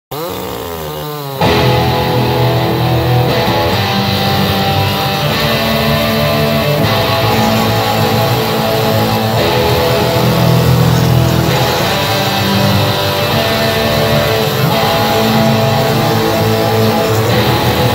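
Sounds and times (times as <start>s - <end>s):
guitar background music: 1.4s - 17.9s.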